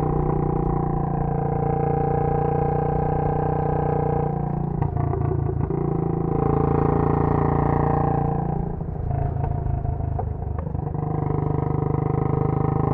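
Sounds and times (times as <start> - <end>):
single-cylinder motorcycle engine running: 0.0 - 12.9.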